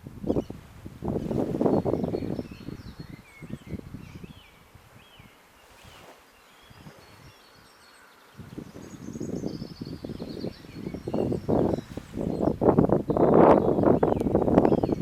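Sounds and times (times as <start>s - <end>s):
wind buffeting microphone: 0.0s - 15.0s
small birds chirping: 0.2s - 15.0s.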